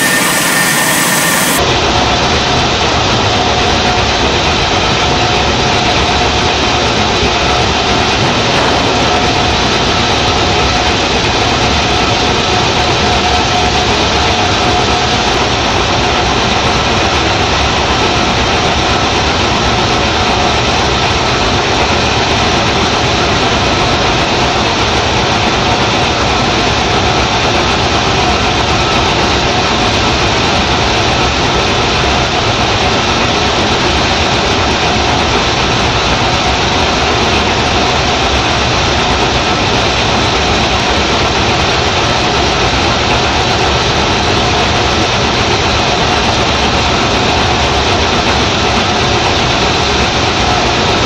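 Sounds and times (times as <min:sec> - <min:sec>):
rice huller running: 0:00.0 - 0:51.0.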